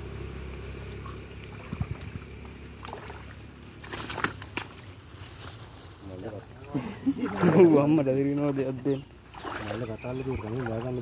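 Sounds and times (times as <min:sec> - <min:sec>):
stream water sloshing: 0:00.0 - 0:11.0.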